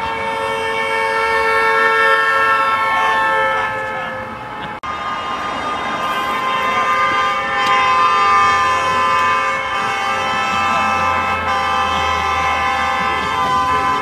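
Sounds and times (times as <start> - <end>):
car horns blasting: 0.0 - 14.0
cars passing: 0.0 - 14.0.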